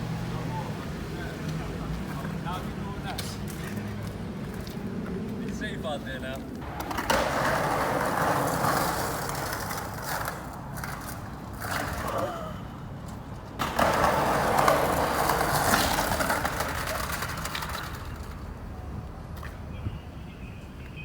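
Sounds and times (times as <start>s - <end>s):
skateboard wheels rolling on pavement: 0.0s - 21.0s.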